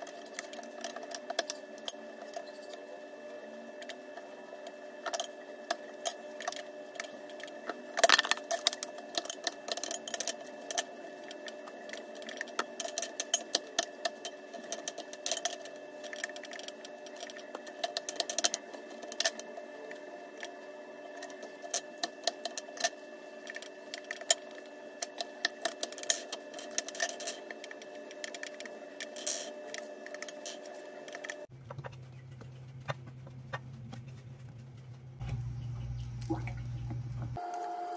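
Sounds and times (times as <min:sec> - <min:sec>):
steady hum: 0:00.0 - 0:37.9.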